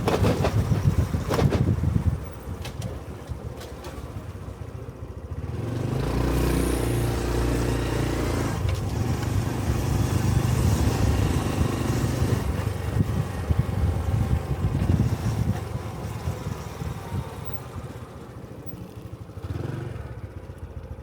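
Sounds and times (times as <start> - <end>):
road and wind noise: 0.0 - 21.0
motorcycle engine revving: 4.0 - 21.0.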